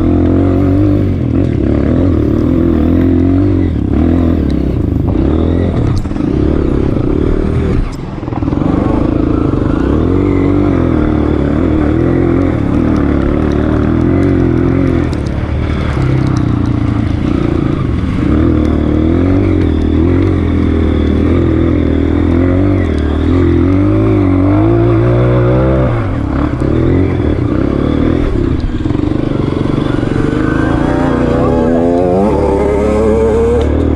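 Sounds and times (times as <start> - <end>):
trail bike engine running: 0.0 - 33.9.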